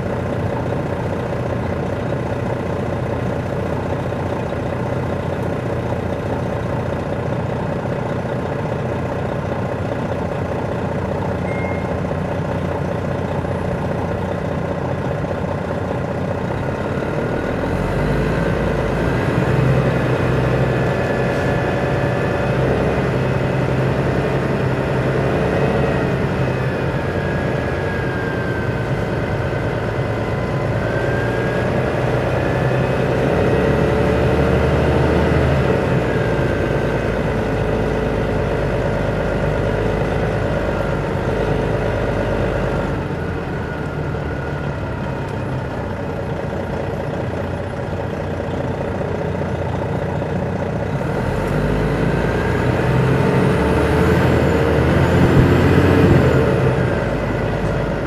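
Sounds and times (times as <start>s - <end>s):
bus diesel engine pulling: 0.0s - 58.0s.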